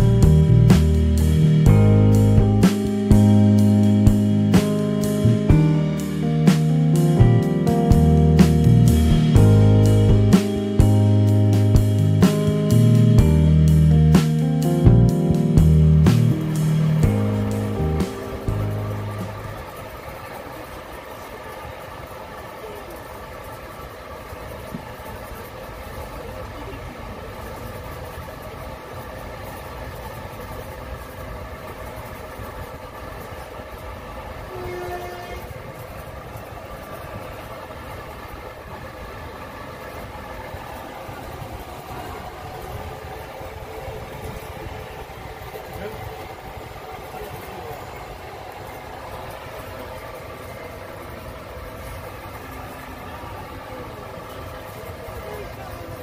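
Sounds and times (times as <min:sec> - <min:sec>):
train rumbling by: 0:00.0 - 0:56.0.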